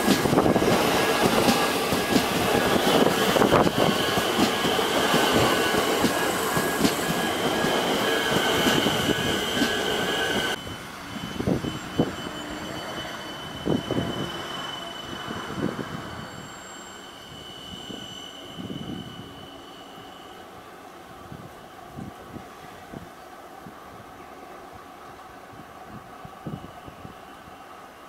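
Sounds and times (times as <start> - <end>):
train wheels rumbling on rails: 0.0 - 23.2
distant train approaching: 0.0 - 28.0
train high whine: 0.0 - 28.0.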